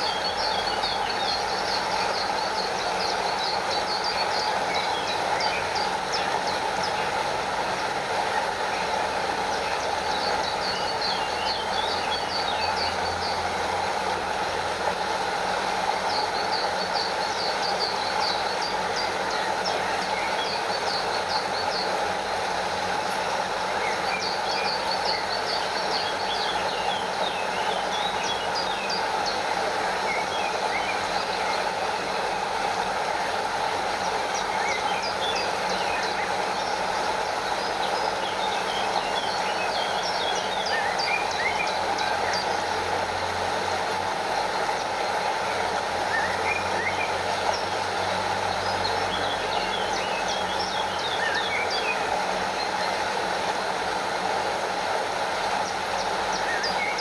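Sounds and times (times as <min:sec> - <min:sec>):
stream rushing over waterfall: 0:00.0 - 0:57.0.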